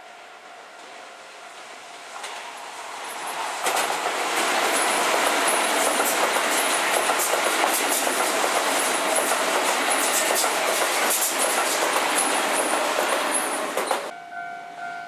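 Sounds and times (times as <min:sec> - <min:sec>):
train wheels rumbling on rail: 0:00.1 - 0:14.1
wheels clacking over rail joints: 0:01.6 - 0:14.1.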